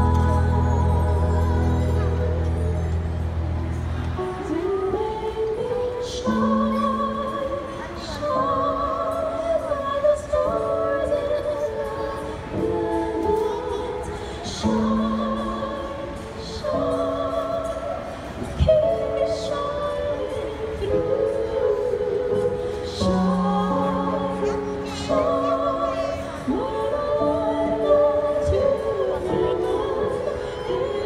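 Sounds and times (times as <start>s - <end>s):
women singing with vibrato: 0.0s - 31.0s.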